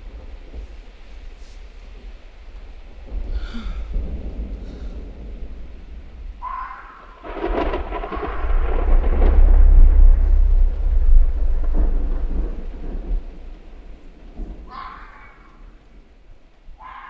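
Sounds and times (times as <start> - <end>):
rain: 0.0 - 17.0
deep rolling thunder: 2.0 - 16.9.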